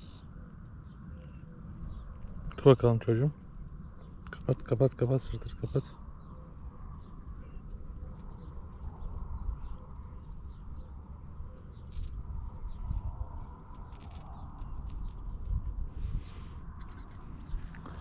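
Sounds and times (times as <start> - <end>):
birds chirping faintly: 0.0 - 18.0
steady low rumble: 0.0 - 18.0.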